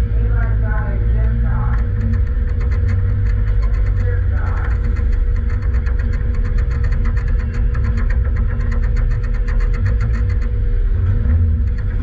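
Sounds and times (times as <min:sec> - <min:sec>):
car engine rumbling: 0:00.0 - 0:12.0
fast even ticking: 0:00.0 - 0:12.0.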